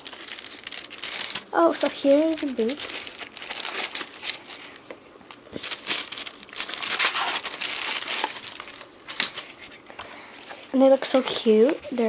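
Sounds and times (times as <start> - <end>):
tissue paper rustling: 0.0 - 4.8, 5.5 - 12.0.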